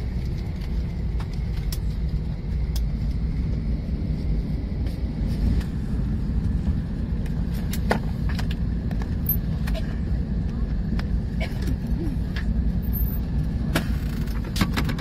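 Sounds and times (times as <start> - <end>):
cabin ventilation rumble: 0.0 - 15.0
faint steady whine: 0.0 - 15.0.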